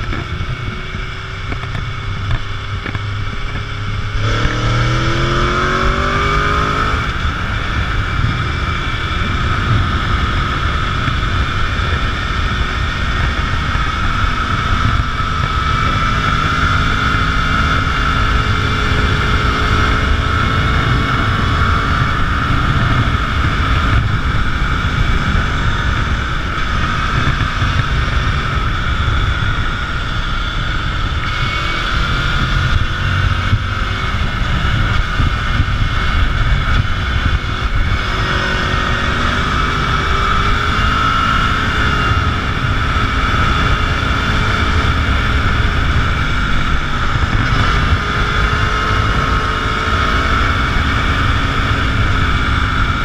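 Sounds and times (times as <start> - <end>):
motorcycle engine running: 0.0 - 53.0
wind buffeting microphone: 0.0 - 53.0.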